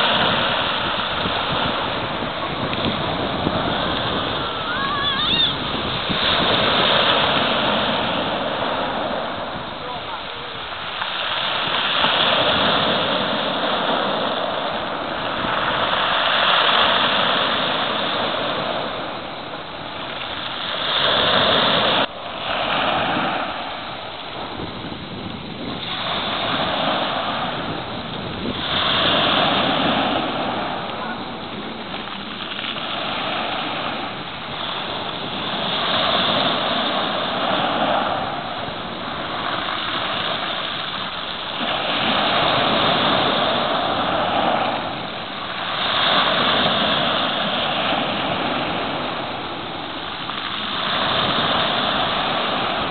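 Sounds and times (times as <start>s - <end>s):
waves breaking on shore: 0.0s - 52.9s.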